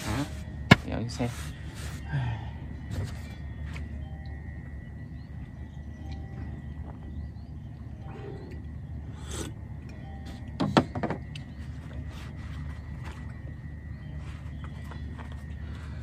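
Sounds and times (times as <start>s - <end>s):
low rumble: 2.4s - 16.0s.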